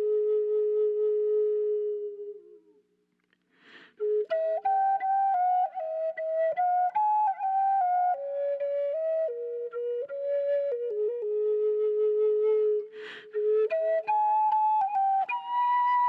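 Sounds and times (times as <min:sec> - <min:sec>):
solo flute melody: 0:00.0 - 0:02.8, 0:04.0 - 0:16.0.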